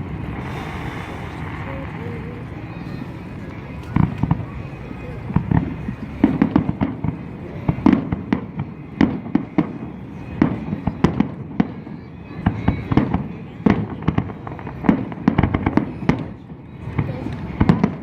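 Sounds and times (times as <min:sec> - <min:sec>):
fireworks bangs and booms: 0:00.0 - 0:18.0.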